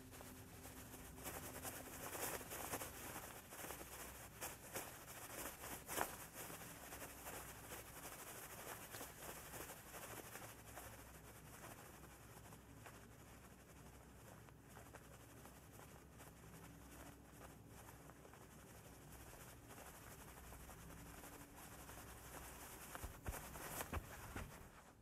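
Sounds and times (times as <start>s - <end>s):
faint low hum and hiss: 0.0s - 25.0s
soft rustles and crackles: 0.0s - 25.0s.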